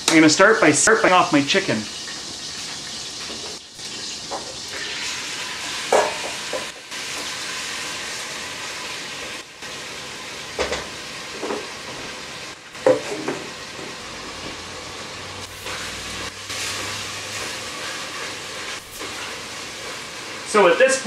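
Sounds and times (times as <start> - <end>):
chicken sizzling in pot: 0.0 - 21.0.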